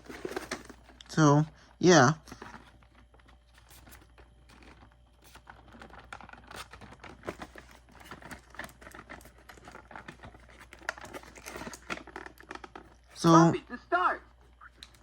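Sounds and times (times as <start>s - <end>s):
plastic packaging crinkling: 0.0s - 1.2s, 2.2s - 13.4s.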